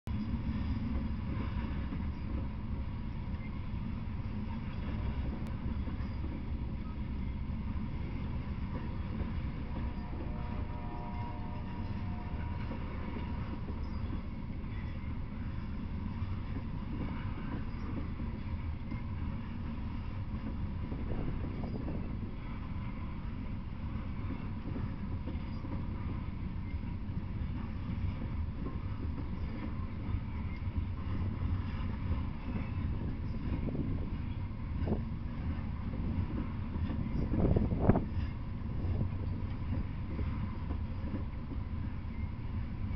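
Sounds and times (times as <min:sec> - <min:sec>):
freight train wheels rumbling: 0:00.1 - 0:42.9.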